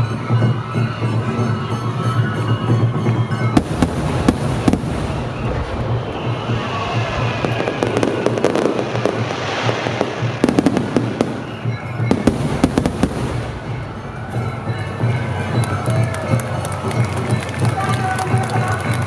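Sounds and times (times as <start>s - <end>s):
music: 0.0s - 19.0s
fireworks bursting and crackling: 2.4s - 19.0s.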